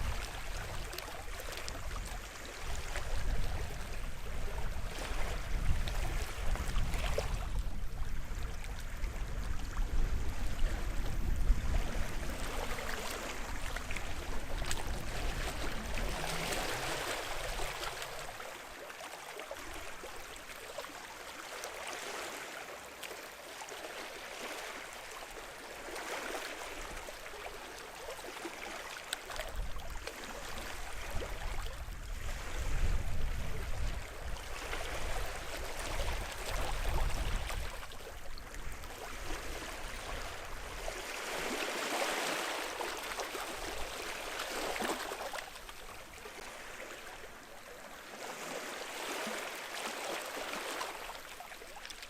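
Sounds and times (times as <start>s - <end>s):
small waves washing ashore: 0.0s - 52.0s.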